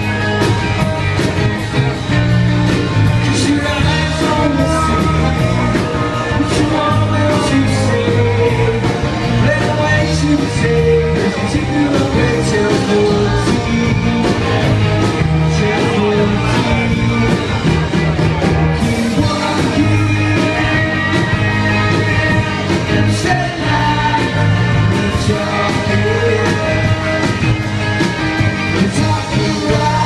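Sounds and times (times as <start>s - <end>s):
rock and roll band playing: 0.0s - 30.0s
man singing: 2.8s - 18.1s, 18.8s - 30.0s.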